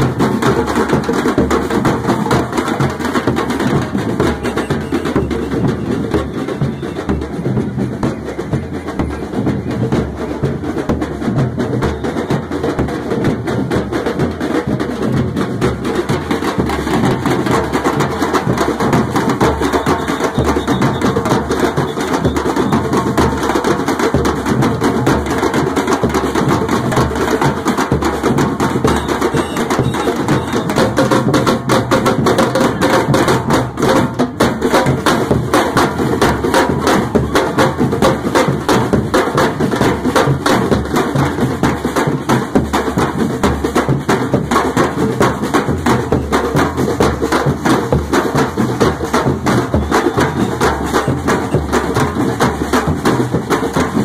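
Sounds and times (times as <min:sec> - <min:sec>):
street drum band playing: 0:00.0 - 0:54.0.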